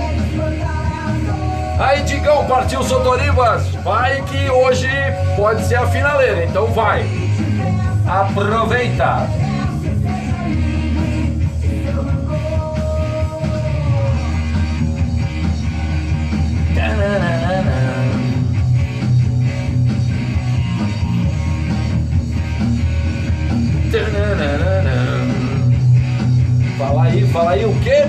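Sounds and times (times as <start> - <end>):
rock song with singer and band: 0.0 - 28.0.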